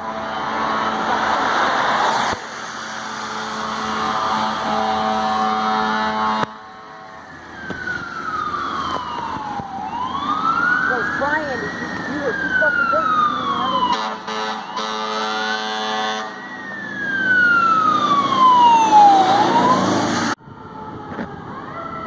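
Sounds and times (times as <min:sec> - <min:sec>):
fire truck sirens wailing: 0:00.0 - 0:22.0
truck engines running: 0:00.0 - 0:22.0.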